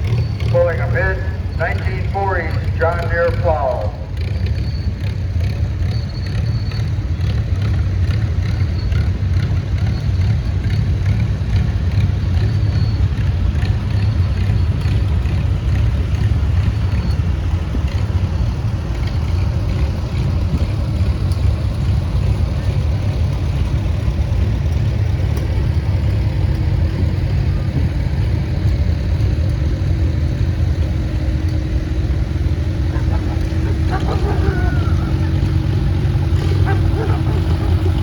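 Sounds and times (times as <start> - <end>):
tractor engines rumbling: 0.0 - 38.0.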